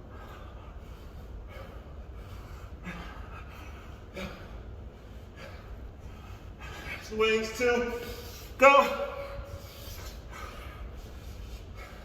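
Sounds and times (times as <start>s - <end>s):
man breathing hard: 0.0s - 7.2s, 7.9s - 12.0s.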